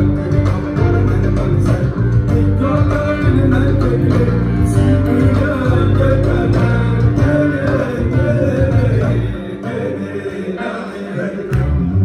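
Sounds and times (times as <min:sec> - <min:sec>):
steady bass: 0:00.0 - 0:10.0, 0:11.5 - 0:12.0
man singing: 0:00.0 - 0:11.9
electric guitars: 0:00.0 - 0:12.0.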